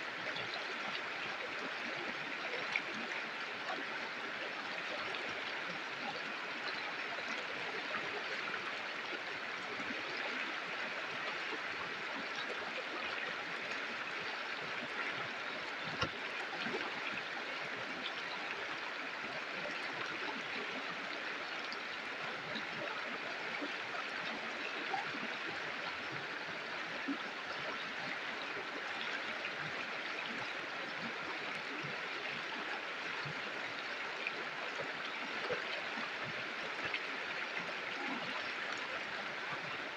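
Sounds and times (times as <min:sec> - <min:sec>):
river water babbling over rocks: 0:00.0 - 0:39.9.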